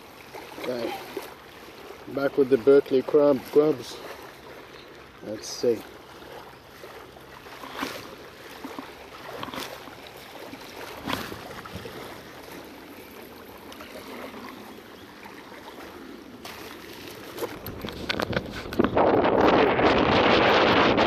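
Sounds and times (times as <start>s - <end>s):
water lapping: 0.0s - 20.9s.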